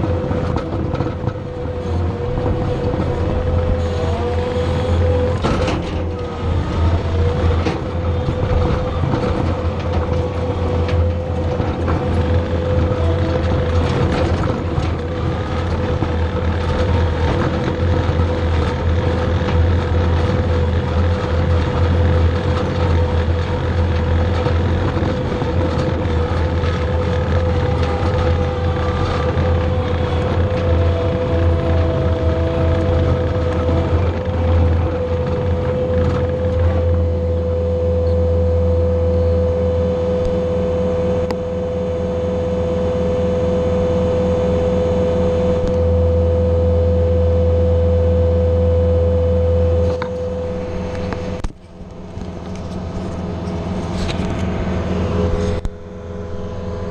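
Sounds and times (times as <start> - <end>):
diesel engine running under load: 0.0 - 56.9
high whine: 0.0 - 56.9.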